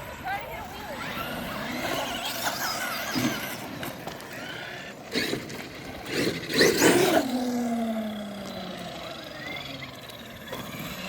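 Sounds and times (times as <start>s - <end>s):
electric toy truck motors whining: 1.0s - 11.0s.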